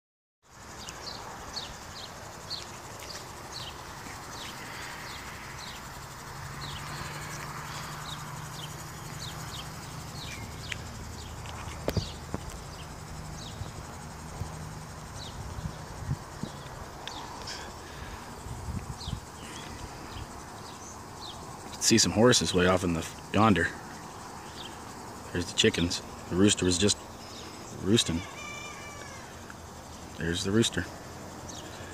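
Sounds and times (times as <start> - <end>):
birds chirping: 0.5 - 31.9.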